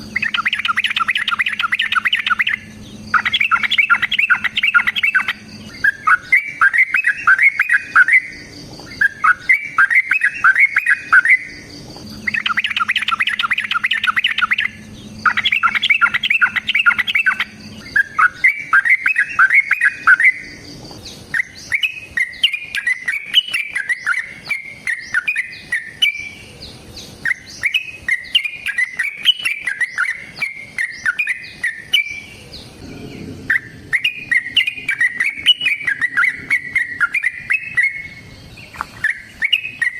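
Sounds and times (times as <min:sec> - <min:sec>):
bird singing rapid chattering song: 0:00.0 - 0:39.9.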